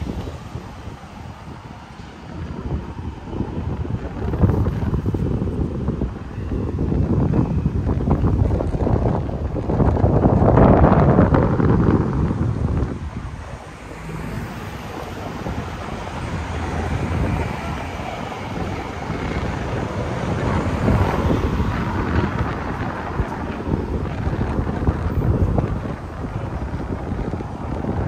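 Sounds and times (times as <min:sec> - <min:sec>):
street traffic passing: 0:00.0 - 0:28.0
wind buffeting microphone: 0:00.0 - 0:28.0.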